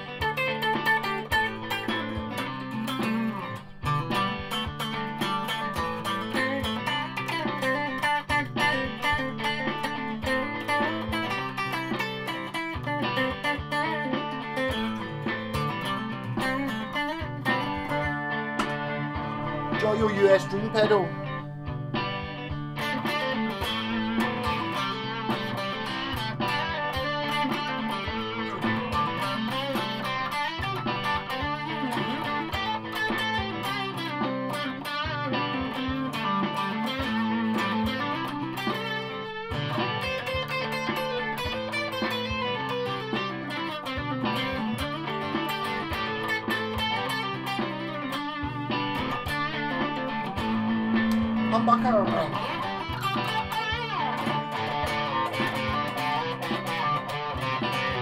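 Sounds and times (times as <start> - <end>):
electric guitar riff: 0.0 - 58.0.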